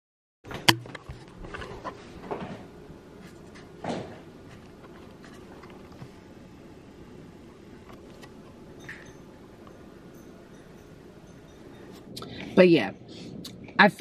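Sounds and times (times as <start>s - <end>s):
faint room noise: 0.5s - 14.0s.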